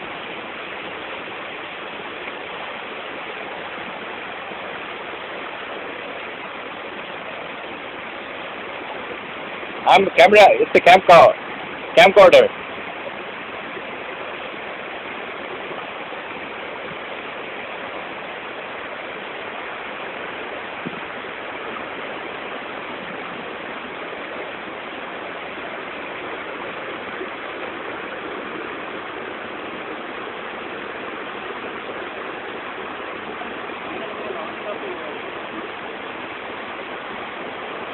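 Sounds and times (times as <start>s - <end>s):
waterfall pouring: 0.0s - 37.9s.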